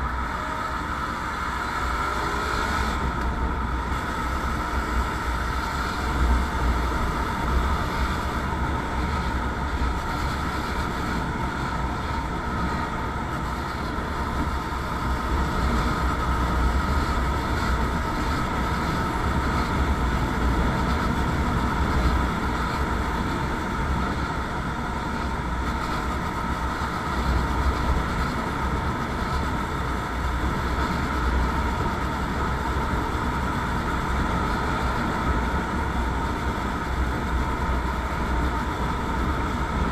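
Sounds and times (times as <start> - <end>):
motorcycle engine drone: 0.0 - 39.9
wind rumble on microphone: 0.0 - 39.9.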